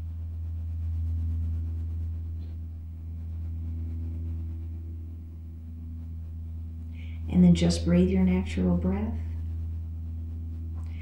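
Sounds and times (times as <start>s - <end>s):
low ambient drone music: 0.0s - 11.0s.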